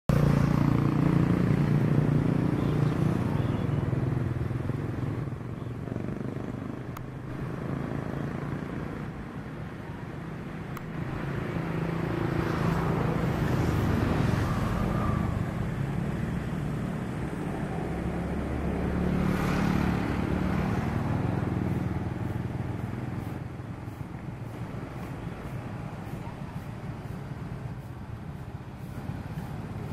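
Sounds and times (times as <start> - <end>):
turboprop engine drone: 4.3 - 29.9.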